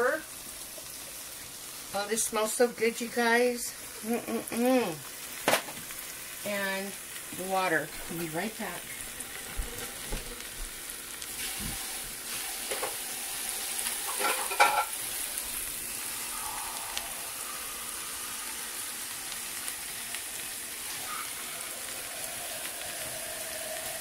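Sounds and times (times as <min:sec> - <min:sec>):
food sizzling in oil: 0:00.0 - 0:24.0.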